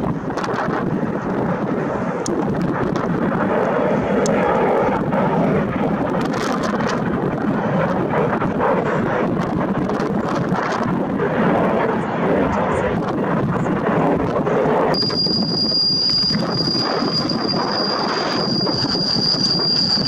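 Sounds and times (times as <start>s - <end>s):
airliner engines running: 0.0s - 20.0s
wind buffeting microphone: 0.0s - 20.0s.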